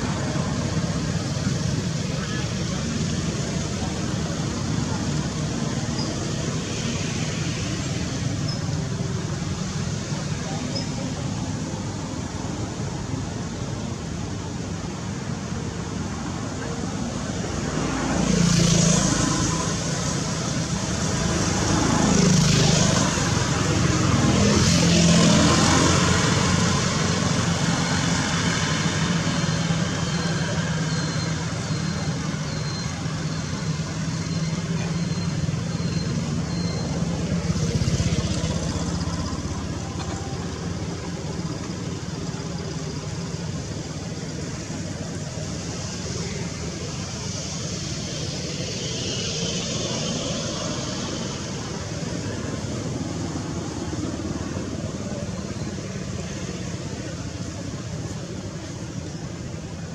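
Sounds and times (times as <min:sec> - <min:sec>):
background traffic noise: 0:00.0 - 0:59.9
steady engine hum: 0:00.0 - 0:59.9
vehicles passing: 0:00.0 - 0:59.9.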